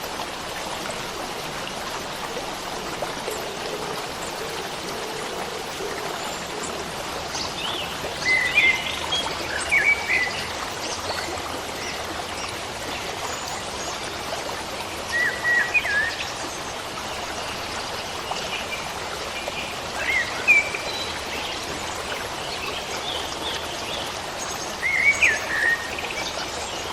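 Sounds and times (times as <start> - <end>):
stream water rushing: 0.0 - 26.9.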